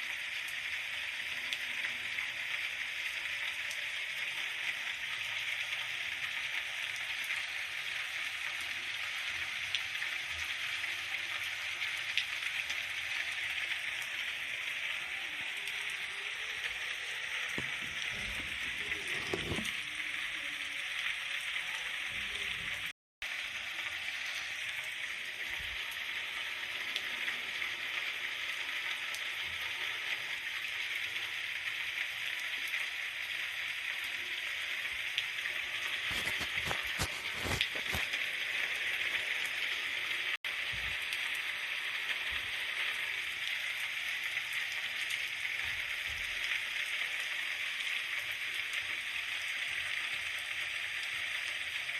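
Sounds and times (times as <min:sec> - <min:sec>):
steady rain falling: 0:00.3 - 0:51.9.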